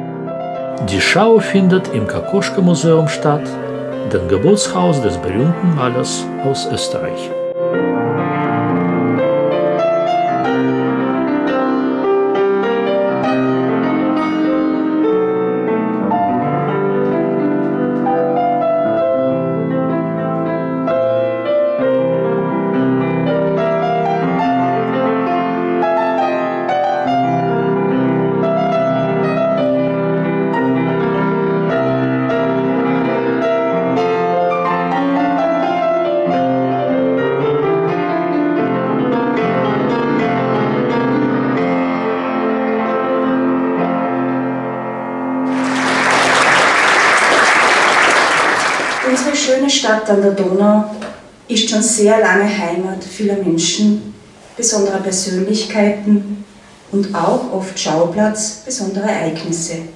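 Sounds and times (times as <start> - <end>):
solo piano piece: 0.0 - 49.8.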